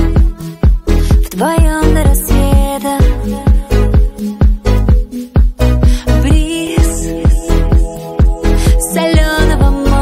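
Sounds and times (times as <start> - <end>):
kick drum: 0.0 - 9.8
synth chords: 0.0 - 10.0.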